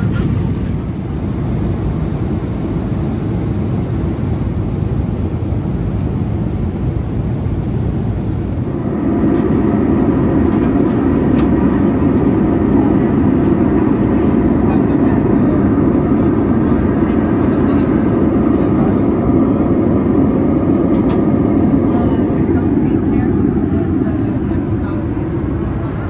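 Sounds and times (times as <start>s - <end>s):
airplane cabin engine rumble: 0.0s - 26.0s.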